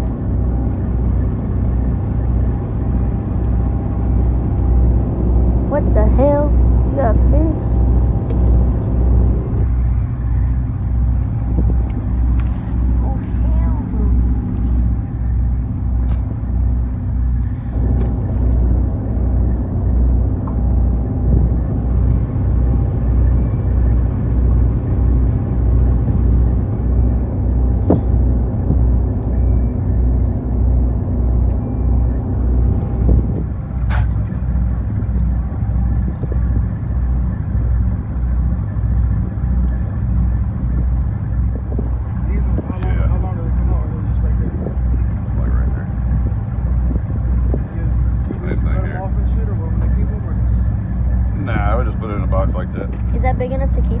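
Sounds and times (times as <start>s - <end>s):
engine throbbing: 0.0s - 54.0s.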